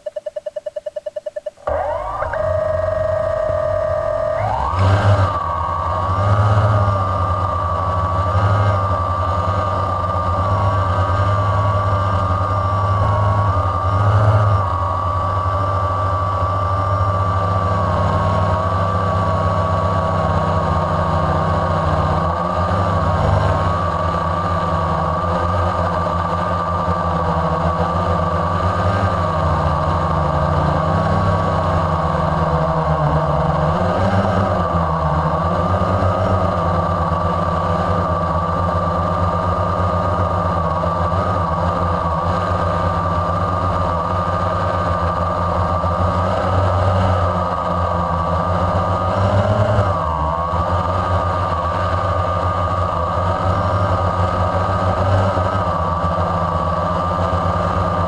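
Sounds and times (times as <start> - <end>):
model aircraft engine revving: 1.5 - 58.0.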